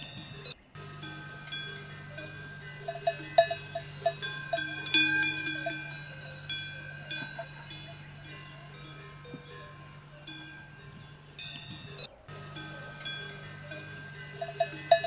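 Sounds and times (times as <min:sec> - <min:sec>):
clinking bell-like tones: 0:00.0 - 0:15.0
steady low hum: 0:00.0 - 0:15.0.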